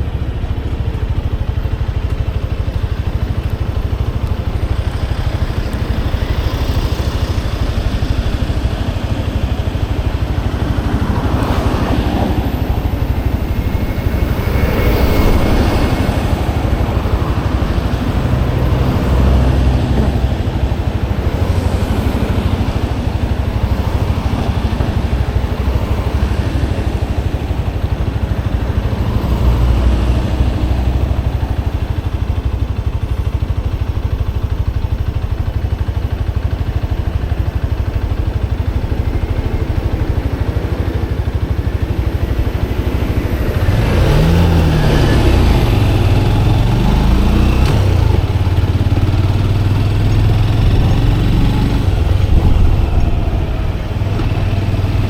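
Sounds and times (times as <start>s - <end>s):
motorcycle engine and road rumble: 0.0s - 55.0s
traffic passing: 0.0s - 55.0s.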